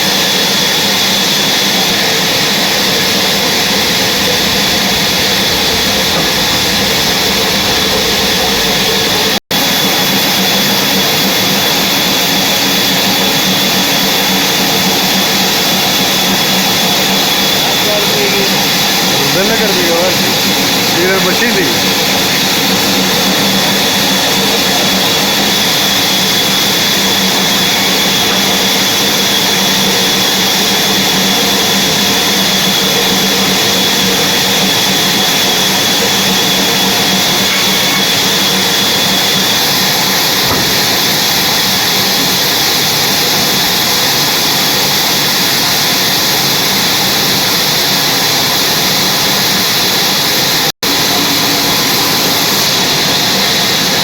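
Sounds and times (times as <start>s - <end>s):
sawmill machinery whining: 0.0s - 54.0s.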